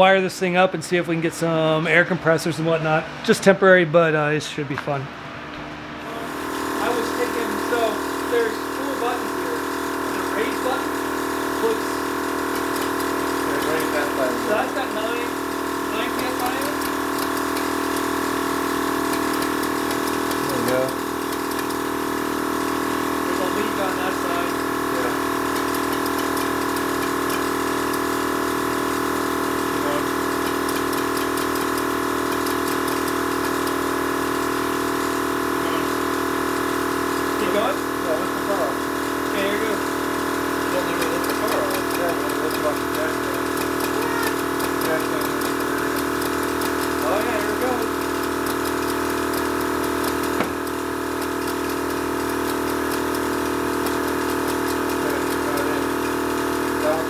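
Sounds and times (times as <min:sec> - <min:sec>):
electric air compressor running: 0:05.1 - 0:57.0.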